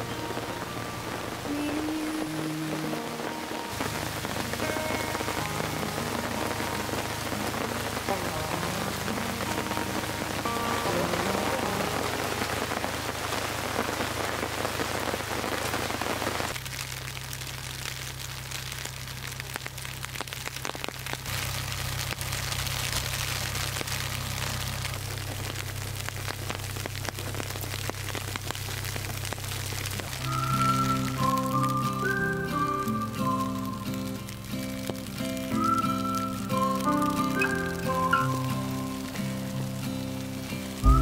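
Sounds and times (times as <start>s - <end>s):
hail ticking: 0.0s - 41.0s
rain pattering on tarp: 0.0s - 41.0s.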